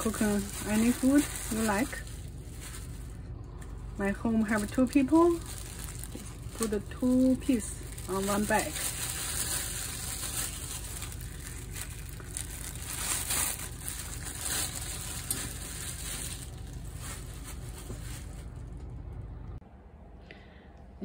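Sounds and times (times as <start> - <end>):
plastic rustling and crinkling: 0.0 - 19.3
steady hiss and low hum: 0.0 - 21.0.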